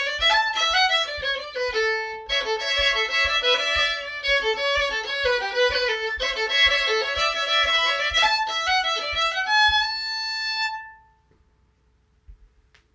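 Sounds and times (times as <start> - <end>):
solo fiddle jig: 0.0 - 11.1
soft low thuds: 0.0 - 11.5.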